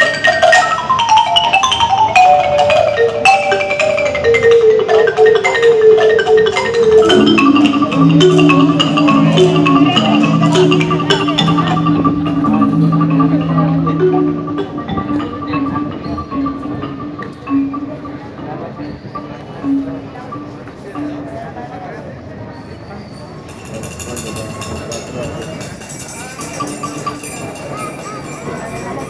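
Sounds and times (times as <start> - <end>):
marimba and mallet percussion: 0.0 - 29.0.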